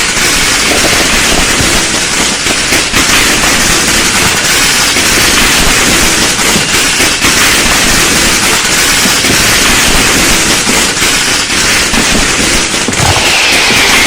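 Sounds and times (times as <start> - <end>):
firecrackers and fireworks banging: 0.0 - 14.0.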